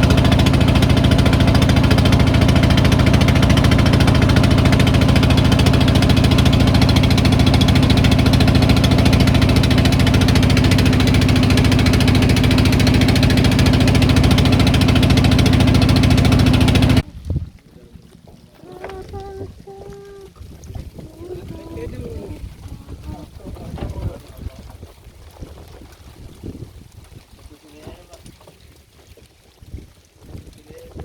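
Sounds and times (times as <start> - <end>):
boat engine running: 0.0 - 28.9.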